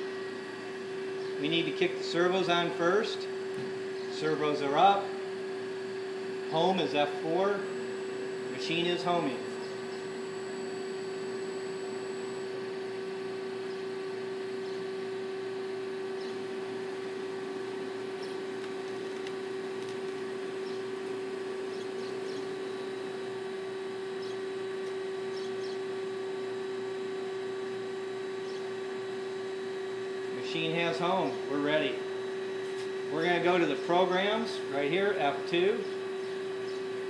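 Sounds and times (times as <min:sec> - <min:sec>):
lathe humming steadily: 0:00.0 - 0:37.0.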